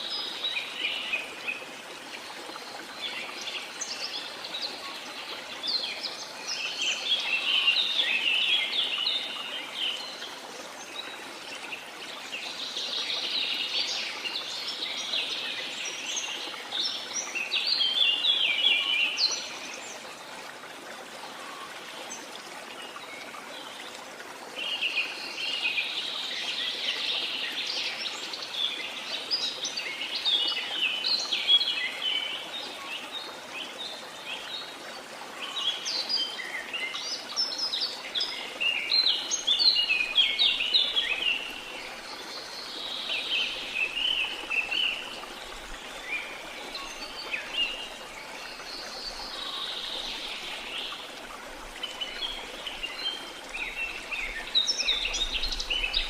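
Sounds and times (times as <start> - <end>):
running water hiss: 0.0 - 56.0.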